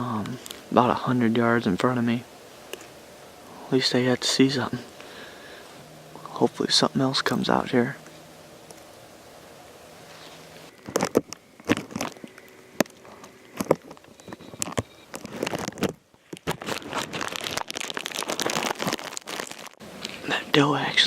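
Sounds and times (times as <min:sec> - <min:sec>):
crackling rustles against microphone: 0:00.0 - 0:21.0.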